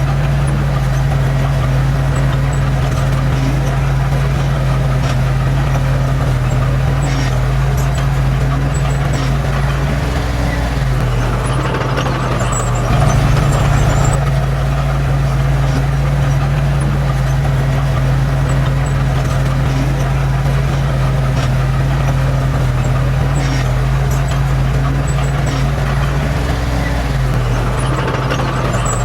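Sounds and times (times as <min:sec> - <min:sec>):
heavy diesel engine humming: 0:00.0 - 0:29.0.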